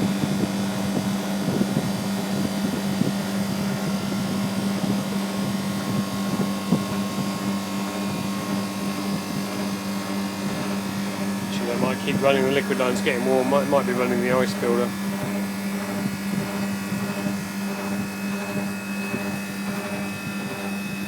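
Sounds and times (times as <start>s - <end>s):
condensing unit humming: 0.0s - 21.0s.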